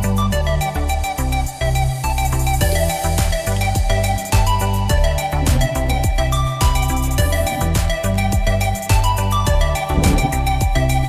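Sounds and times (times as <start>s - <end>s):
electronic music with synth and beat: 0.0s - 11.0s.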